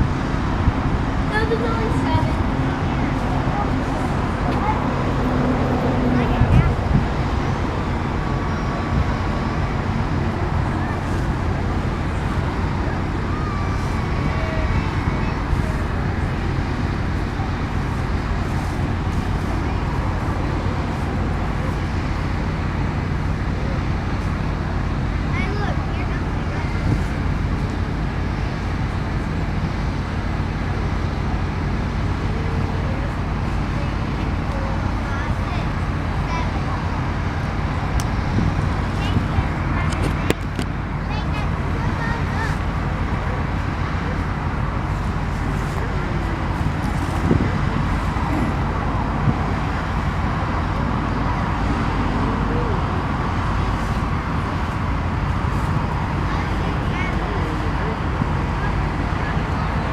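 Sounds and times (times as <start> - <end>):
low road traffic rumble: 0.0 - 59.9.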